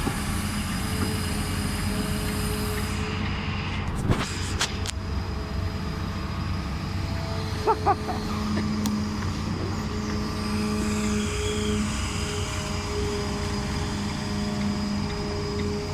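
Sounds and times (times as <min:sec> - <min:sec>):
heavy machinery diesel engines droning: 0:00.0 - 0:15.9.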